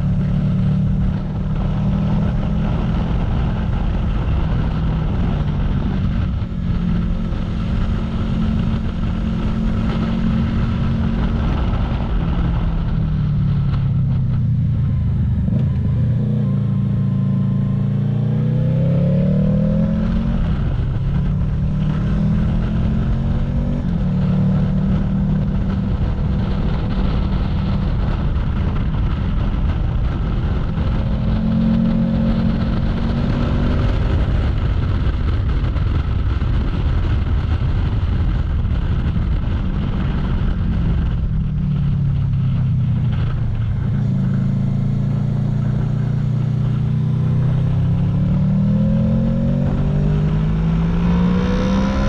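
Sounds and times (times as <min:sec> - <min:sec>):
motorcycle engine revving: 0:00.0 - 0:52.0
wind and road noise: 0:00.0 - 0:52.0.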